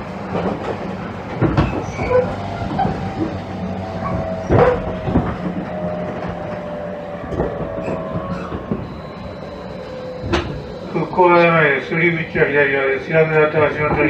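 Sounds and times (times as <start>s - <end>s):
train inverter whine: 0.0s - 14.0s
wheels clacking over rail joints: 0.0s - 14.0s.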